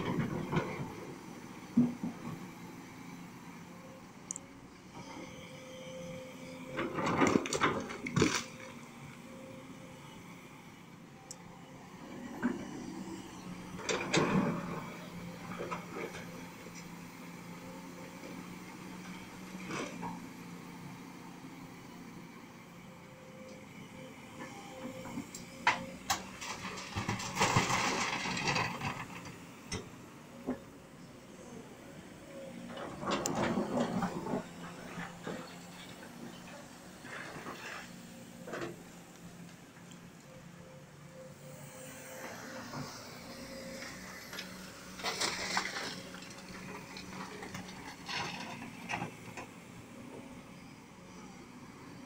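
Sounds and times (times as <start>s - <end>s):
faint engine hum: 0.0s - 52.0s.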